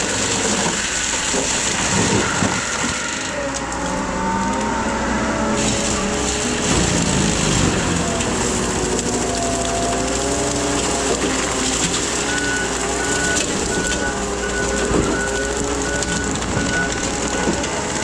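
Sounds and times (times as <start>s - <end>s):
skid steer engine under load: 0.0s - 18.0s.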